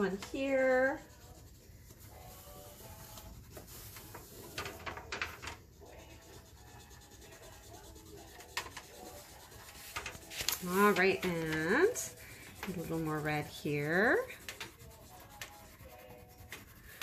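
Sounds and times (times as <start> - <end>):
crayon scratching on paper: 0.0 - 17.0.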